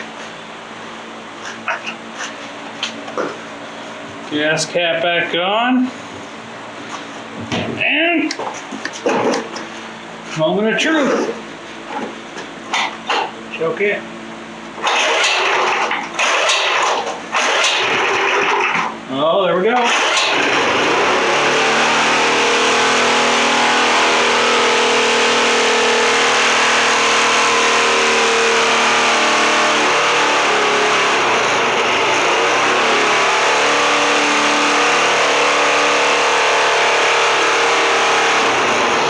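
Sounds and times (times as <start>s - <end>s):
generator engine running: 0.0s - 39.0s.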